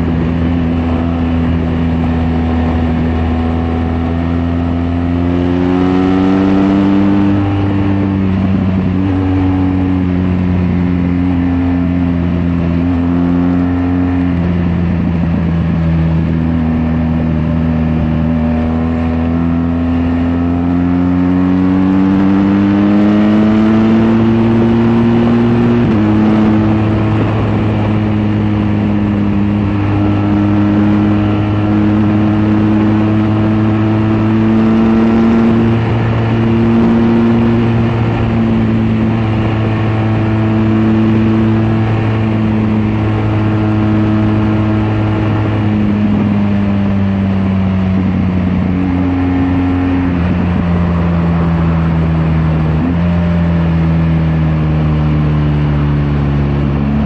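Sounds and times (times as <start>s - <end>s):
wind and road rush: 0.0s - 57.0s.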